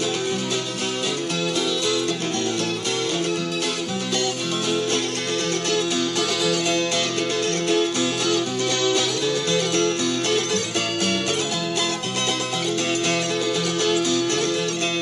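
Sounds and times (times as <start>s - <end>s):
dulcimer melody: 0.0s - 15.0s
plucked acoustic guitar: 0.0s - 15.0s.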